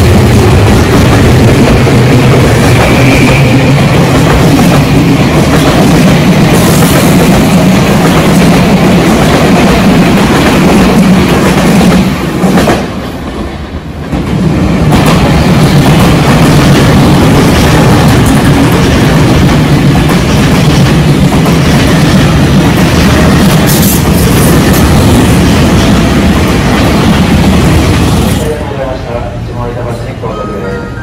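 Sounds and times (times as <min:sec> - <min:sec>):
train wheels rumbling on rails: 0:00.0 - 0:30.2.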